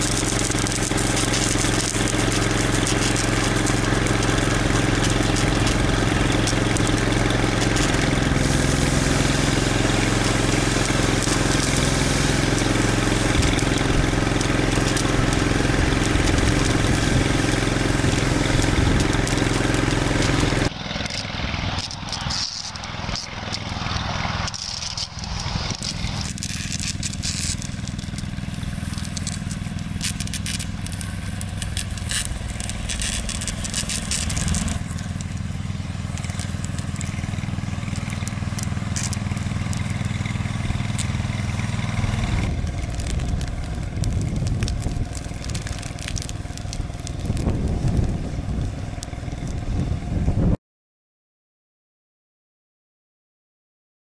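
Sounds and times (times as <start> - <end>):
crackling and crunching: 0.0 - 49.8
truck engine running: 0.0 - 50.5.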